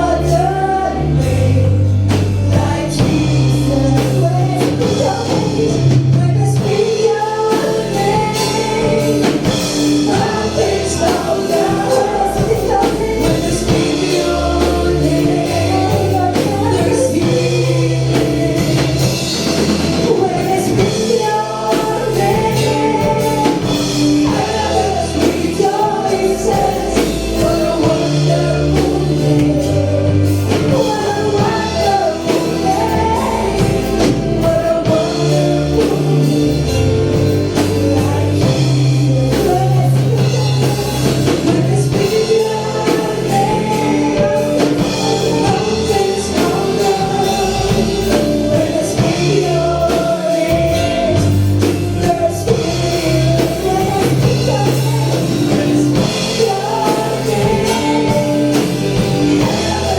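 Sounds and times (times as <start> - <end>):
band playing gospel music: 0.0 - 59.9
voices singing: 0.0 - 59.9.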